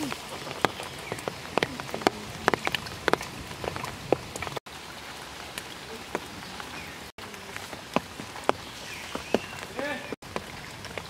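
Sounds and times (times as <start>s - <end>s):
rain on puddles and leaves: 0.0s - 11.0s
water drips and splashes: 0.0s - 11.0s.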